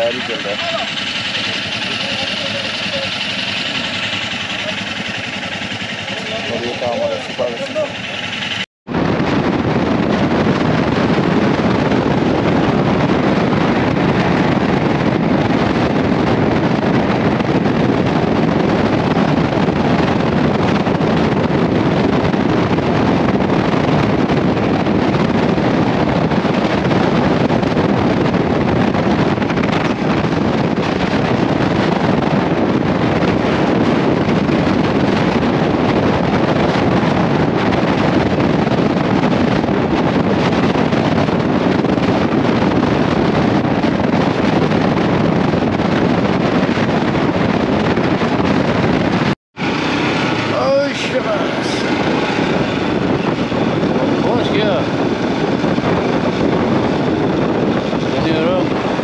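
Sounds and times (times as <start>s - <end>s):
motorcycle engine: 0.0s - 59.0s
road noise: 0.0s - 59.0s
wind rushing over microphone: 0.0s - 59.0s.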